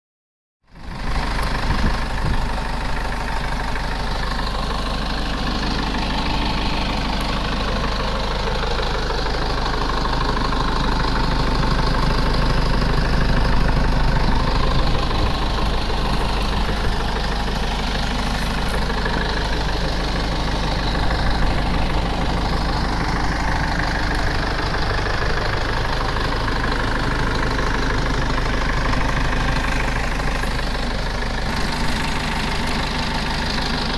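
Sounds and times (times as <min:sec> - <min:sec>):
truck engine idling: 0:00.7 - 0:33.9.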